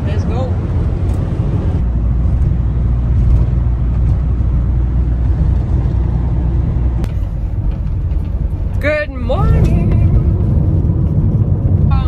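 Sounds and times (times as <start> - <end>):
van driving engine and road noise: 0.0 - 12.0.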